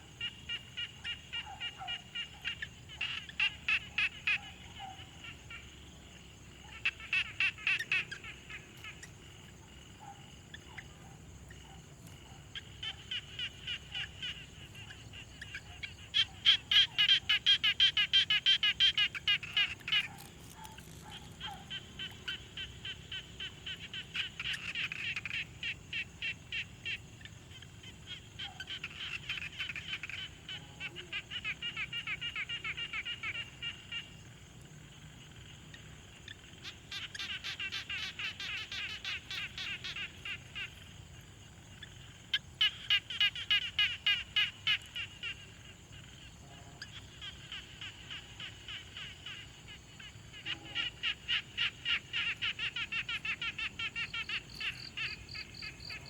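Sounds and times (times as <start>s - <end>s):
frogs calling in pulsed trills: 0.0s - 56.0s.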